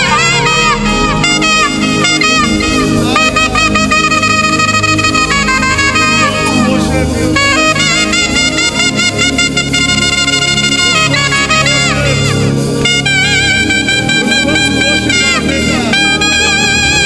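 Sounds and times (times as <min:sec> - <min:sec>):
gospel band accompaniment: 0:00.0 - 0:17.0
saxophone playing quick runs: 0:00.0 - 0:17.0.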